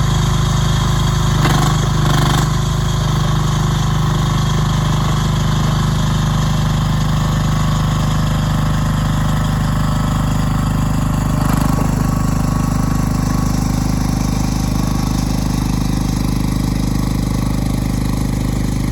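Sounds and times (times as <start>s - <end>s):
excavator diesel engine idling: 0.0s - 18.9s.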